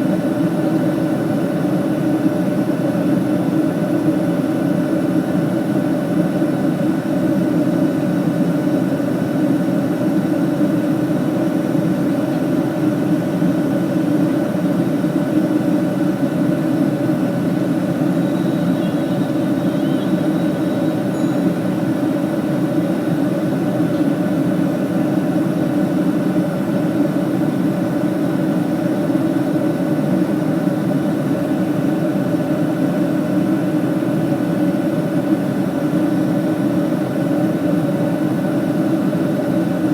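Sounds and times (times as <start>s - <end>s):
airliner cabin drone: 0.0s - 39.9s
faint steady hum: 0.0s - 39.9s.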